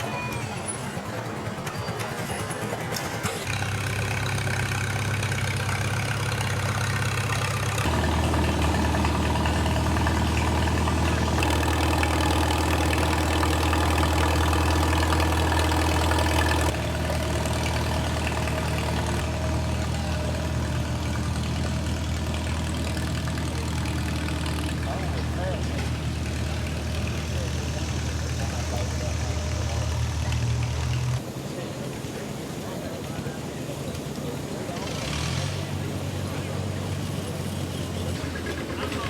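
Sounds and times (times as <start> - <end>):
engines idling: 0.0 - 39.0.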